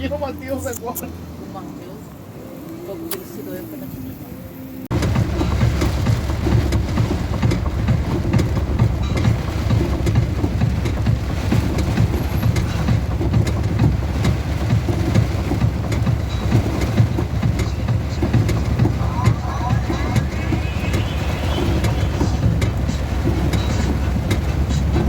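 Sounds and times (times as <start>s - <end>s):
loud low rumble: 4.9s - 25.0s
quick irregular thumps: 4.9s - 25.0s.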